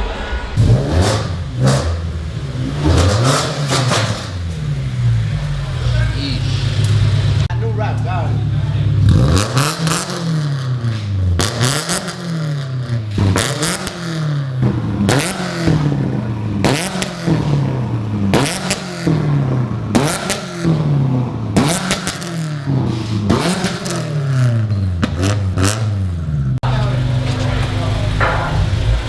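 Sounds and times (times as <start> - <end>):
car engine revving: 0.0 - 29.0
exhaust crackle: 0.0 - 29.0.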